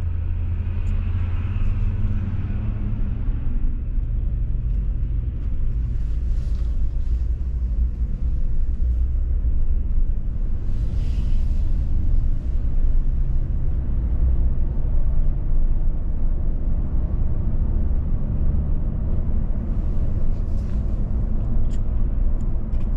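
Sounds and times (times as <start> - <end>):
car engine and tyre rumble: 0.0 - 22.9.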